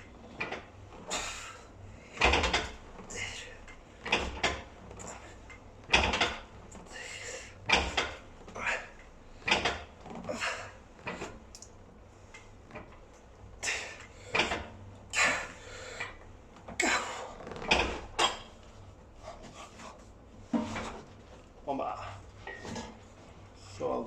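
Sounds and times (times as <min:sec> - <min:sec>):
weight stack knocking and scraping: 0:00.0 - 0:11.5, 0:12.3 - 0:21.4.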